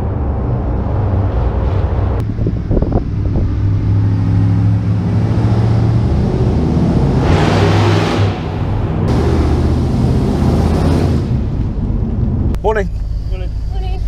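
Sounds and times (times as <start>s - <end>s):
truck engine driving past: 0.0s - 13.7s.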